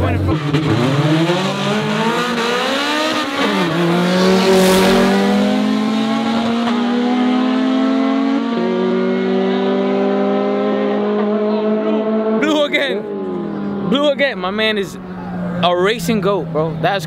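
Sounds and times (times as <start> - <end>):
cars accelerating hard: 0.0 - 17.0.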